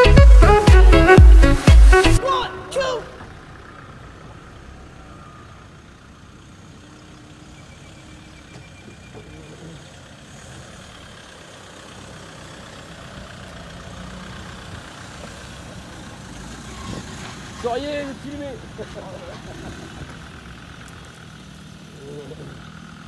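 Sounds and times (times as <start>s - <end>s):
truck engine at low revs: 0.0s - 23.0s.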